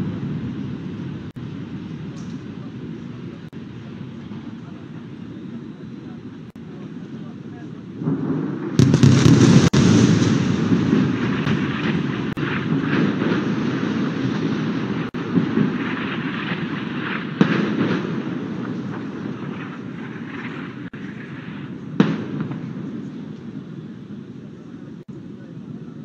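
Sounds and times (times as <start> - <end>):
distant explosion rumbling: 0.0 - 26.0.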